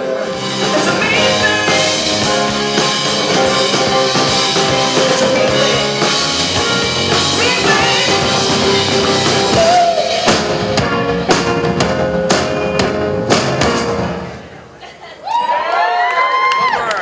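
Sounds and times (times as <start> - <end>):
rock music: 0.0 - 14.5
heavy drum hits: 0.2 - 14.5.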